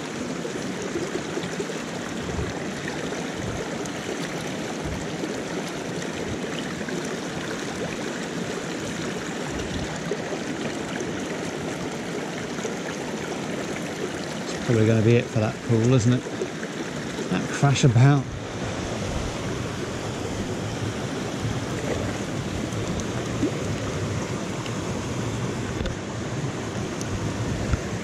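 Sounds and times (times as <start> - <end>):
stream flowing over stones: 0.0 - 28.0.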